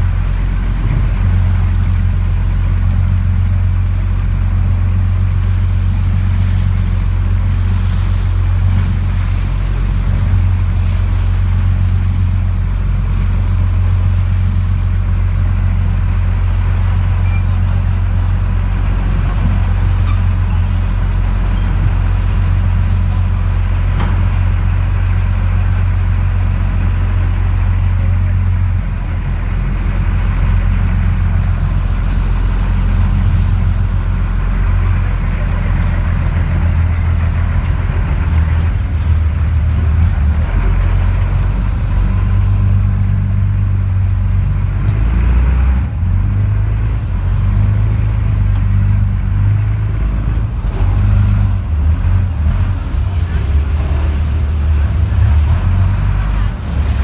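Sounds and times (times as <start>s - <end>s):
ferry engine drone: 0.0s - 57.0s.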